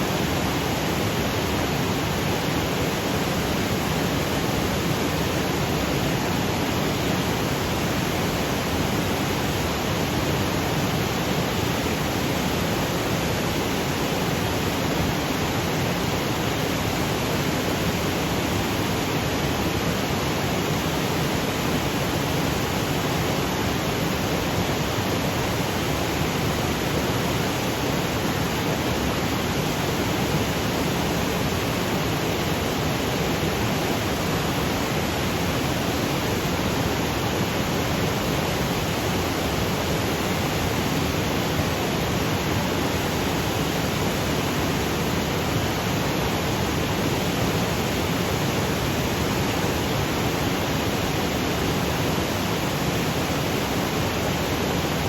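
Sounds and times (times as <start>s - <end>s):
waterfall rushing over boulders: 0.0s - 55.0s.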